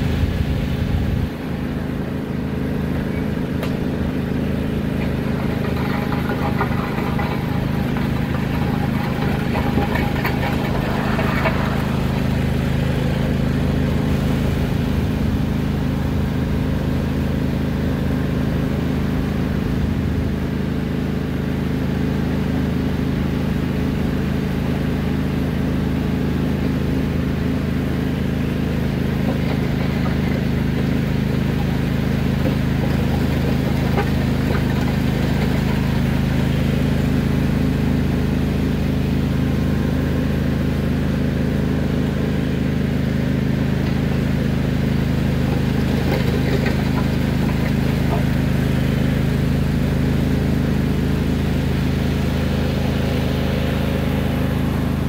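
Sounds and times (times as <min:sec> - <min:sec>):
riding lawn mower engine running: 0:00.0 - 0:55.0.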